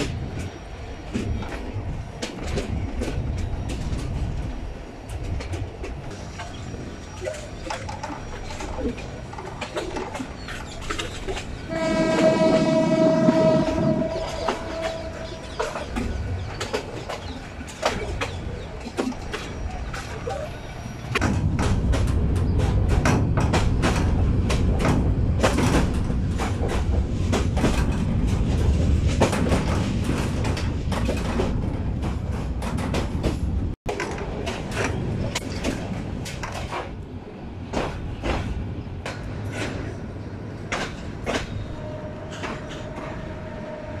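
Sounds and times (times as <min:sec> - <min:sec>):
train rumble: 0:00.0 - 0:44.0
wheels clacking over rail joints: 0:00.0 - 0:44.0.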